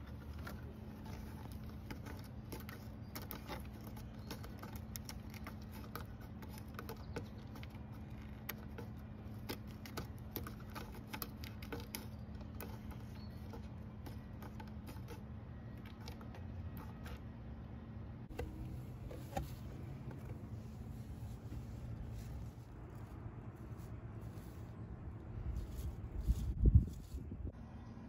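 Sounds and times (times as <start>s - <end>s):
cat claws scratching wood: 0.0s - 27.3s.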